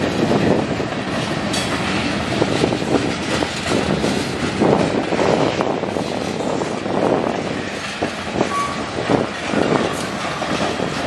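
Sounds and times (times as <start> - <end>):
steel wheels rumbling on rails: 0.0 - 11.0
wheels clacking over rail joints: 0.0 - 11.0.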